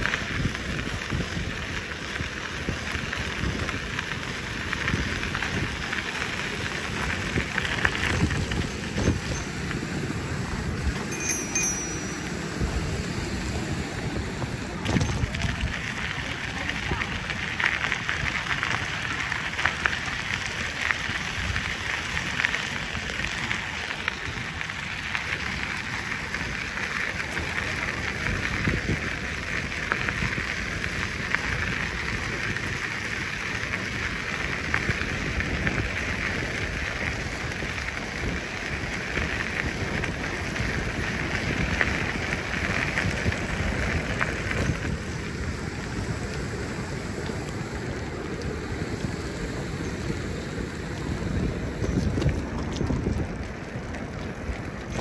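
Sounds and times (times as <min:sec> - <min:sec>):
bicycle jolting over bumps: 0:00.0 - 0:55.0
bicycle tyre noise on path: 0:00.0 - 0:55.0.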